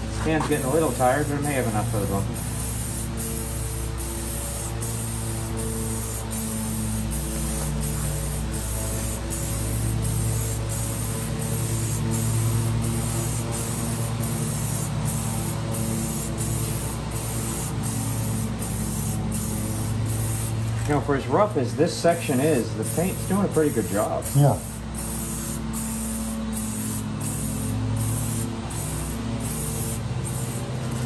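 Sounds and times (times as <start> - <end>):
aerosol spray can hissing: 0.5 - 20.7, 22.2 - 31.0.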